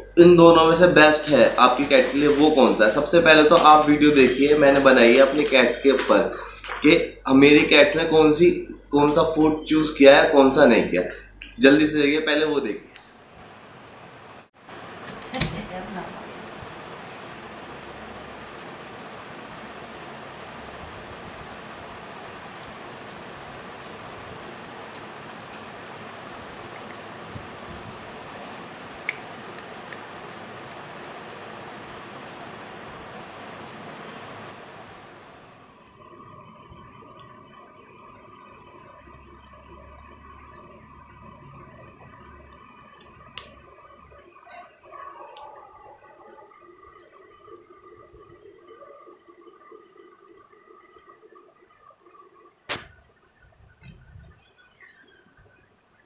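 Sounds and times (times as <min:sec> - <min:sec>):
background hiss: 0:00.0 - 0:56.0.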